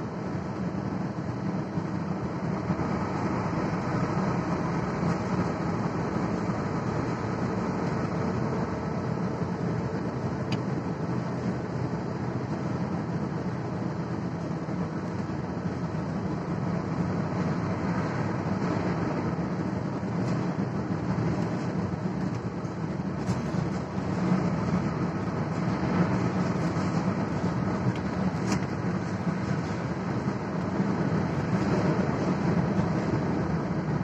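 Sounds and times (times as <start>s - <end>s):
vehicle engine and tyre noise: 0.0s - 34.0s.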